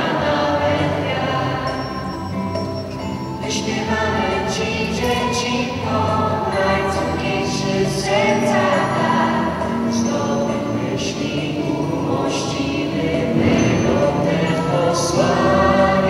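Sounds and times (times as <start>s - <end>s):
young singers singing a carol: 0.0s - 16.0s.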